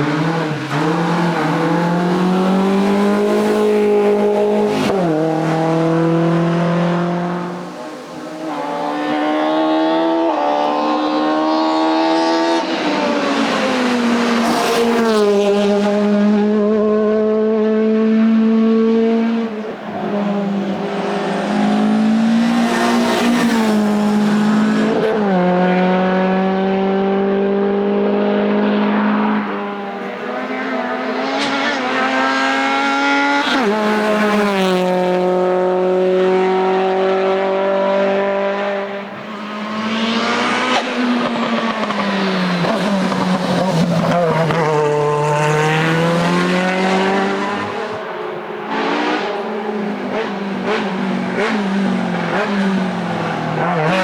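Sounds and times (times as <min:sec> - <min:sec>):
race car engines at high revs: 0:00.0 - 0:54.0.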